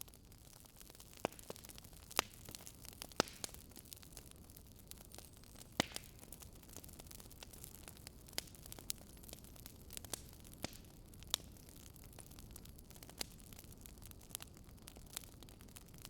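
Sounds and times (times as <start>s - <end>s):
fireplace crackling: 0.0s - 16.0s.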